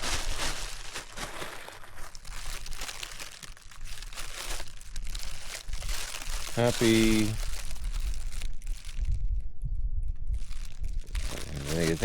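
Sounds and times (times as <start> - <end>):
foil balloon crinkling: 0.0 - 9.2, 10.4 - 12.0.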